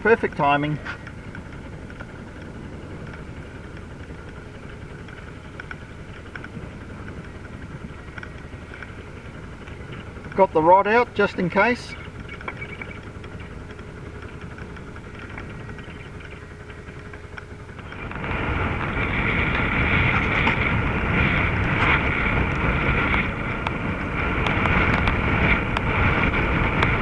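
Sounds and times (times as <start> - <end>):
faint steady hum: 0.0 - 27.0
strong wind buffeting microphone: 0.0 - 27.0.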